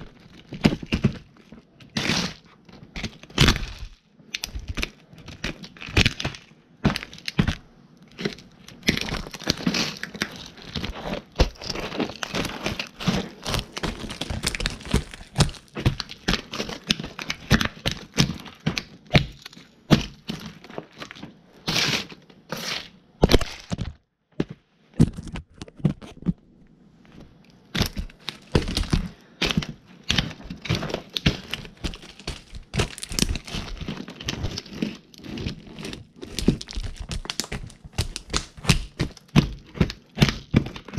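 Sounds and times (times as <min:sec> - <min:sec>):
toy cars crushed under boots: 0:00.0 - 0:26.4, 0:27.2 - 0:40.9.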